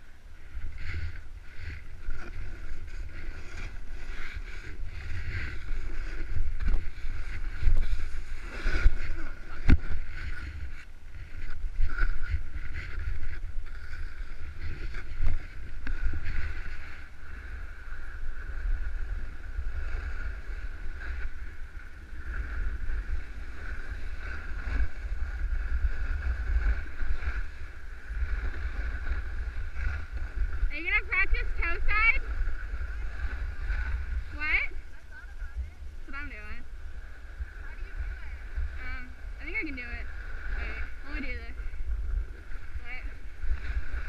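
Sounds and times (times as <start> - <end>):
wind buffeting microphone: 0.0 - 44.0
snowboard sliding on snow: 0.4 - 44.0.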